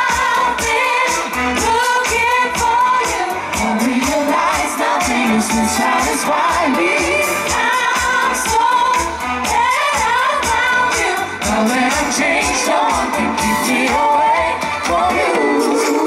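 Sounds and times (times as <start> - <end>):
backing music with steady beat: 0.0 - 16.0
vocal group singing through pa: 0.0 - 16.0.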